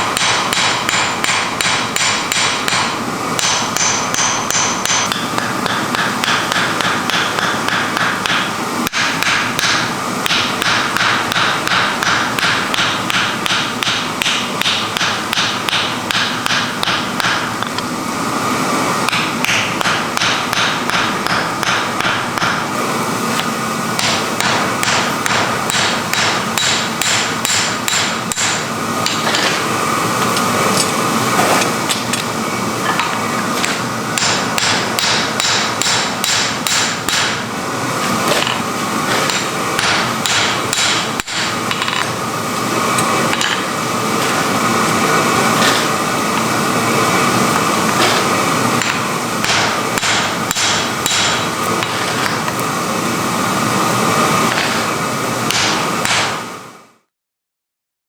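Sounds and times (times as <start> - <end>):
hammer striking hot iron: 0.0 - 17.9, 19.0 - 42.2, 42.8 - 52.8, 54.3 - 56.5.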